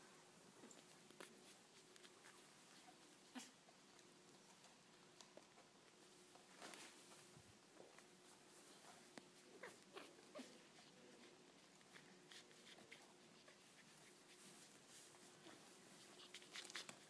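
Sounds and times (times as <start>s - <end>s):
faint rustling in fleece: 0.0s - 3.7s, 5.9s - 17.0s.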